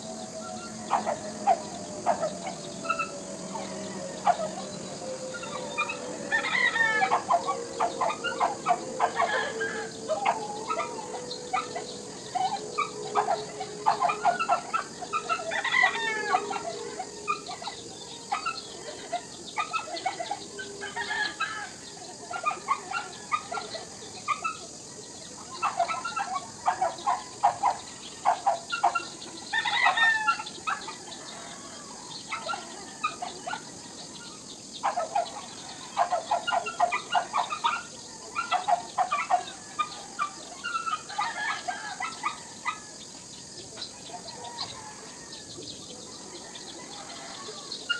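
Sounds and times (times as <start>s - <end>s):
birds chirping: 0.0s - 47.9s
high insect drone: 0.0s - 47.9s.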